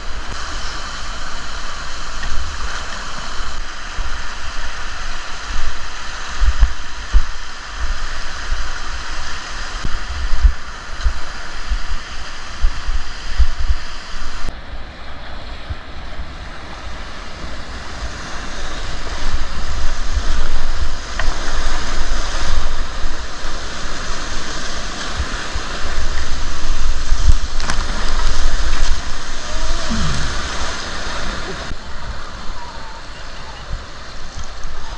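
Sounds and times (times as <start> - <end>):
river water rushing: 0.0 - 34.9
wind buffeting microphone: 1.8 - 34.9.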